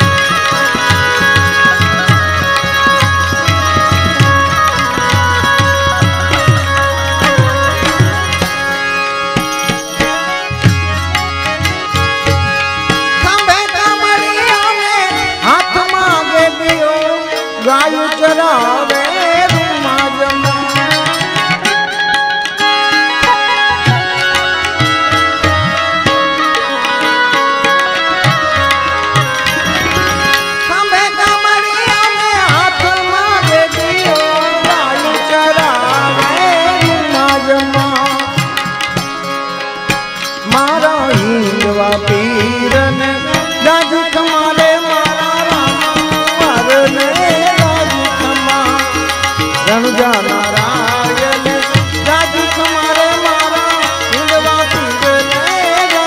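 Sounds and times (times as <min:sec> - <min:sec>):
tabla drumming: 0:00.0 - 0:56.0
wavering devotional melody: 0:00.0 - 0:56.0.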